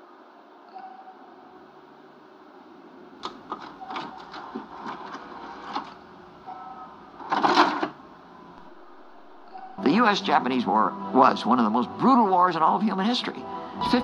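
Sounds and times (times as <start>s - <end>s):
television static hiss: 0.0s - 14.0s.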